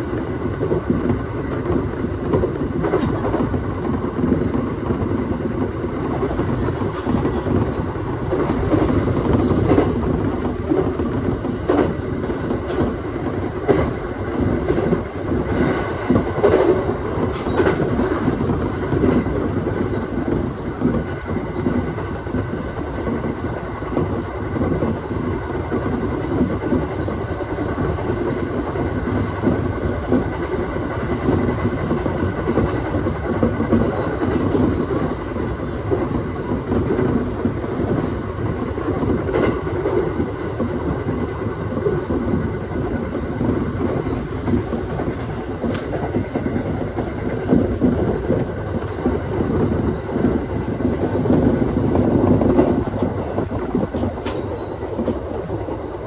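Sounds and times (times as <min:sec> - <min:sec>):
train rolling noise: 0:00.0 - 0:56.0.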